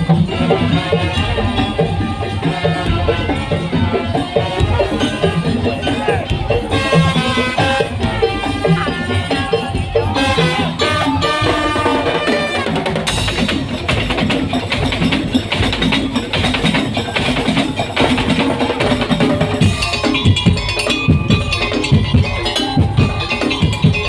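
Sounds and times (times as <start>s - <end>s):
pitched melody: 0.0s - 24.0s
slit drums and drums beating: 0.0s - 24.0s.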